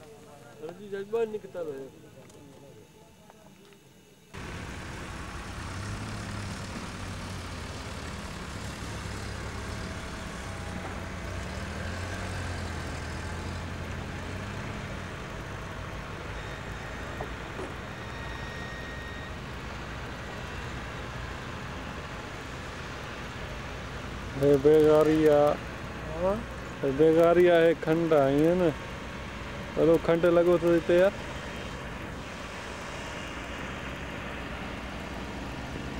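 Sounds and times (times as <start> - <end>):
road and wind noise: 4.3 - 35.9
vehicle engine running: 4.3 - 35.9.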